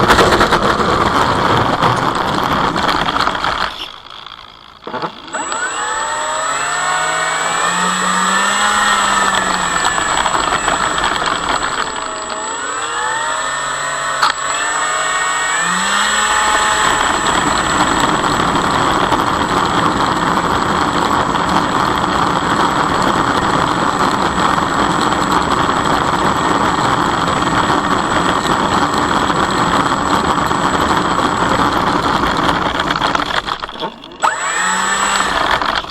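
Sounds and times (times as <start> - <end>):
model plane electric motor whine: 4.8 - 35.9.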